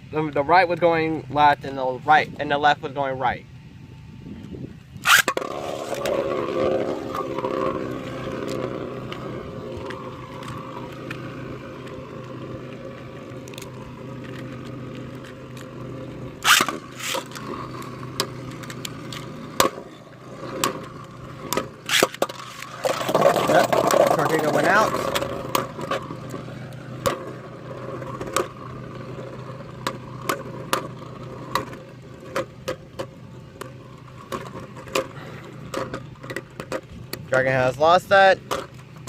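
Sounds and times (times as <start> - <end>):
spinning tops whirring and scraping: 4.9 - 39.0.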